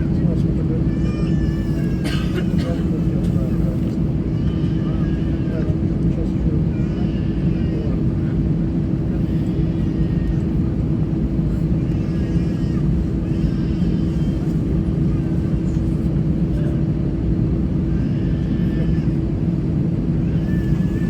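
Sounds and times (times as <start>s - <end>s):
aircraft cabin engine rumble: 0.0s - 21.0s
constant low hum: 0.0s - 21.0s.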